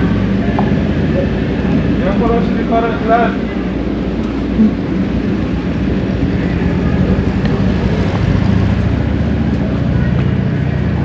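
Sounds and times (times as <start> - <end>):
heavy machinery engine droning: 0.0 - 11.0.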